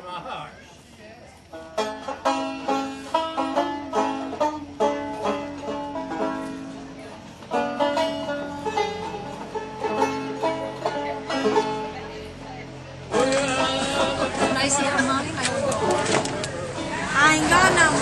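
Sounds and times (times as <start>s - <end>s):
banjo picking quick runs: 1.5s - 12.4s, 13.1s - 18.0s.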